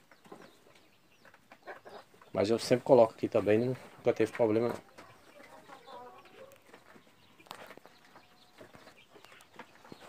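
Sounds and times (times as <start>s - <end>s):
faint chickens clucking and peeping: 0.0s - 10.0s.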